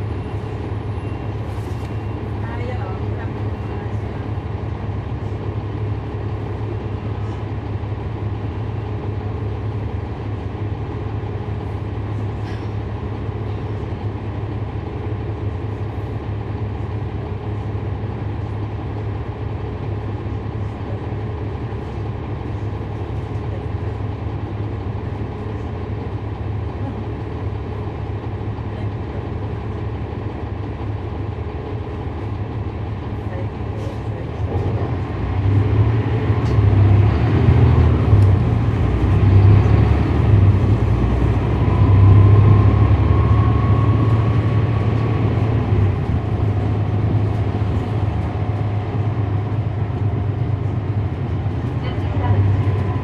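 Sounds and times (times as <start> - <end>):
bus diesel engine droning: 0.0 - 53.0.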